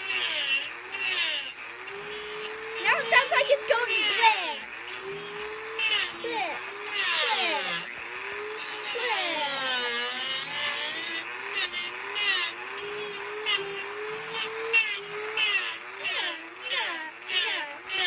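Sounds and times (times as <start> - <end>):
bit scratching into wood: 0.0 - 7.9, 8.6 - 18.0
rotary tool motor whine: 0.0 - 18.0.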